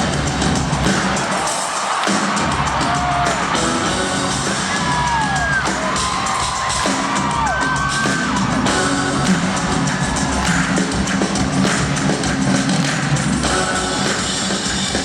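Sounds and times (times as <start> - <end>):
drum kit solo: 0.0 - 15.0
crowd whooping: 0.3 - 15.0.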